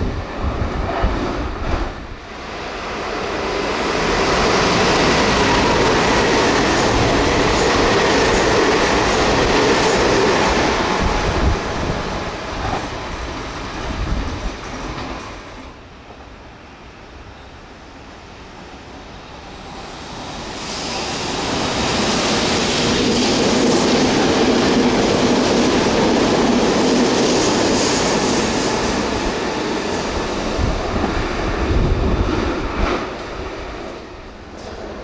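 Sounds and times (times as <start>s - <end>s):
electric train passing at speed: 0.0s - 35.0s.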